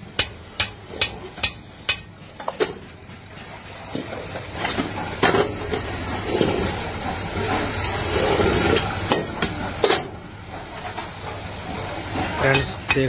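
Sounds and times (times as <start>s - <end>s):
workshop machine hum: 0.0s - 13.0s.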